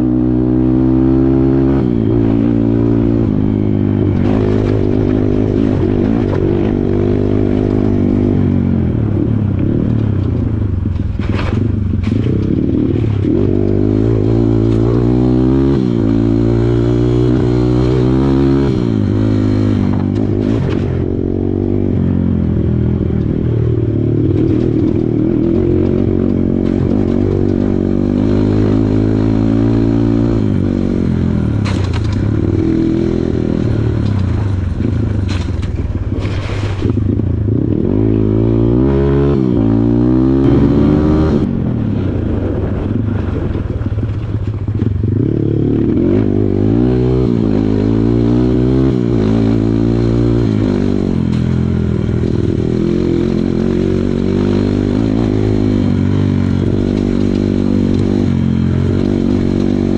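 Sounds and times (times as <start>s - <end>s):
trail bike engine revving: 0.0s - 59.9s.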